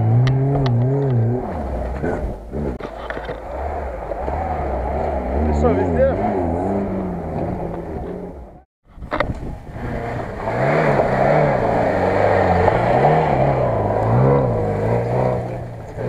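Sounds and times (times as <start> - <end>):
engine revving under load: 0.0 - 16.0.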